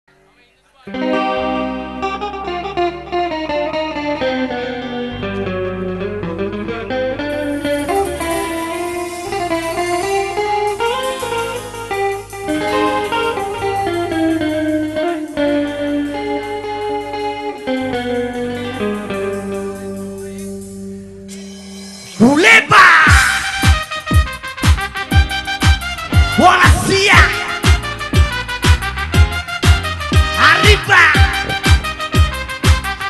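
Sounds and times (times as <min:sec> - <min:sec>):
bass line: 0:00.9 - 0:33.0
electric guitar lead melody: 0:00.9 - 0:33.0.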